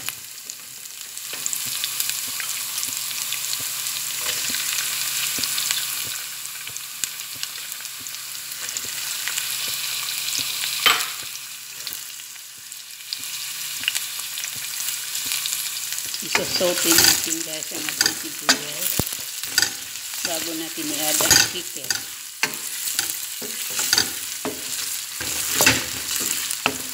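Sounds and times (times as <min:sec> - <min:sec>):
onions sizzling in oil: 0:00.0 - 0:26.9.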